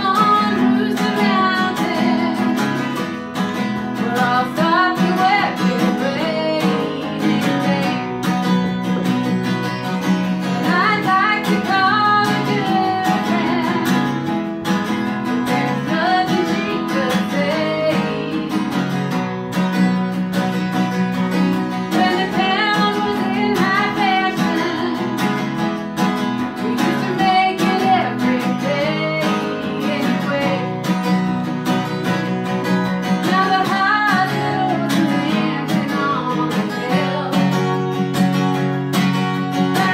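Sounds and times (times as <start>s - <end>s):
person singing: 0.0s - 9.5s, 10.3s - 14.4s, 15.2s - 19.2s, 21.6s - 31.1s, 33.0s - 38.2s, 39.4s - 39.9s
acoustic guitar strumming: 0.0s - 39.9s.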